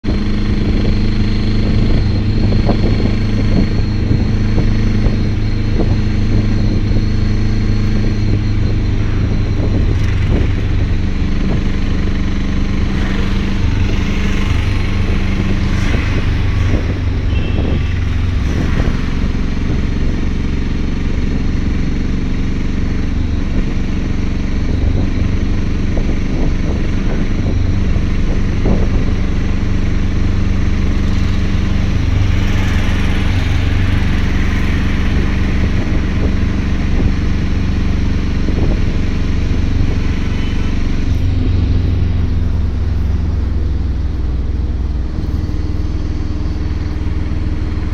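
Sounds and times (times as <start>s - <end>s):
road noise: 0.0s - 47.9s
vehicle engine running: 0.0s - 47.9s.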